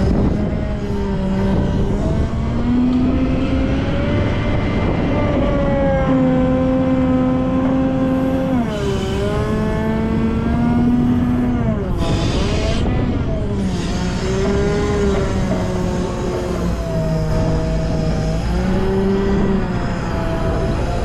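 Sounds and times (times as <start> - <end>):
wheel loader diesel engine: 0.0 - 21.0.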